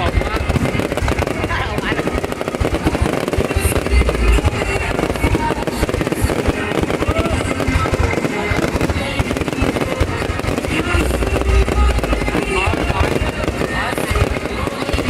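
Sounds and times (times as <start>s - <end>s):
fireworks crackling: 0.0s - 15.0s
music: 0.0s - 15.0s.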